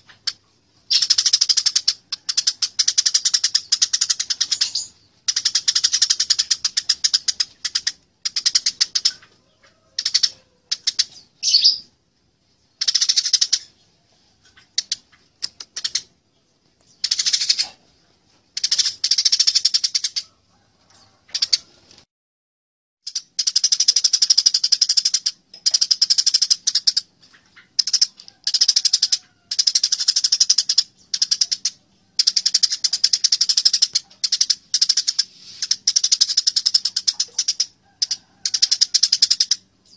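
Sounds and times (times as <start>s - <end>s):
sparrows chirping rapidly: 0.0s - 9.3s, 10.0s - 18.0s, 18.6s - 20.2s, 23.1s - 39.9s.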